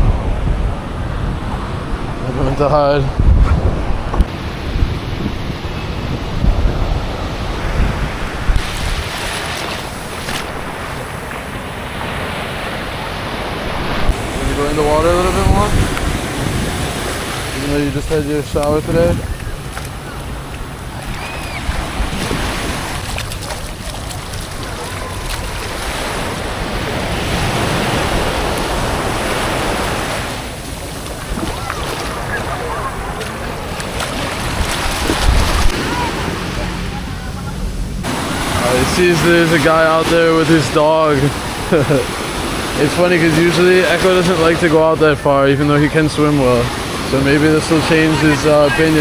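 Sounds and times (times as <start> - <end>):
ocean surf breaking: 0.0 - 49.0
wind buffeting microphone: 0.0 - 49.0.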